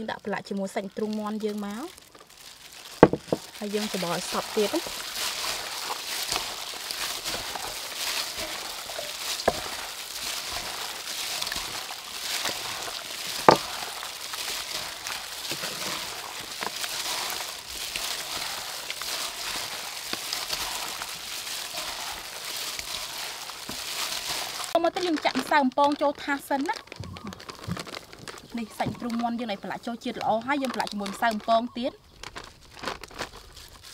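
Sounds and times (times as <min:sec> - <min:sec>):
gloved hands kneading wet meat: 0:00.0 - 0:33.9.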